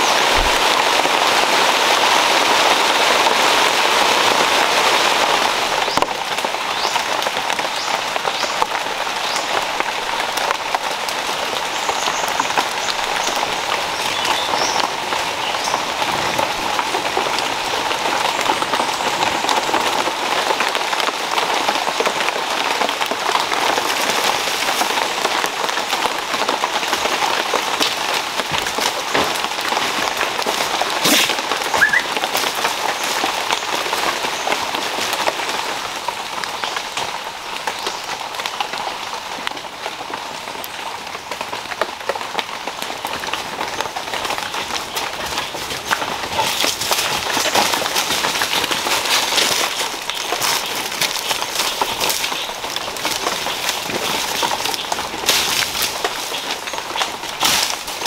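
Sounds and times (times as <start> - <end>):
heavy rain on foliage: 0.0 - 58.0.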